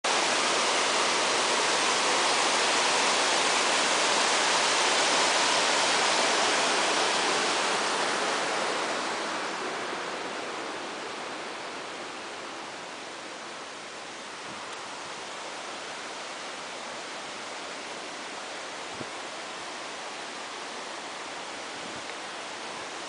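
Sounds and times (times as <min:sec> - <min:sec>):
water rushing over a weir: 0:00.0 - 0:23.0.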